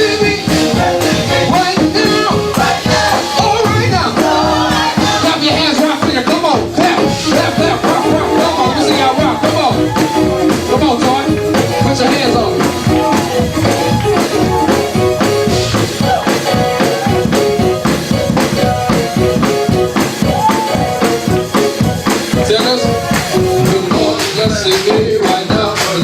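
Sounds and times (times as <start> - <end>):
drums beating: 0.0 - 26.0
gospel band playing: 0.0 - 26.0.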